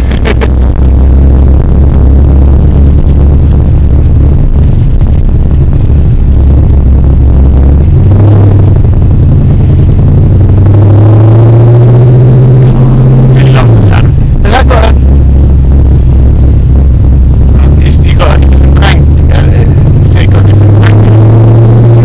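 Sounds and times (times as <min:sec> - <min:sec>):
car engine drone from inside: 0:00.0 - 0:22.0.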